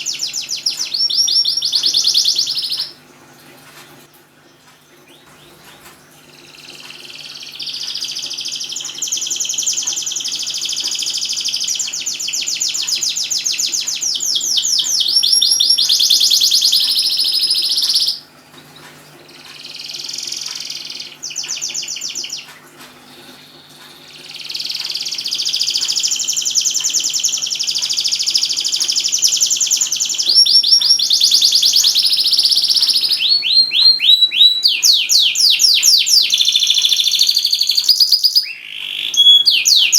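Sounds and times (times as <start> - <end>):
canary singing rolling trills: 0.0 - 3.4, 4.5 - 39.9
faint steady hum: 0.0 - 39.9.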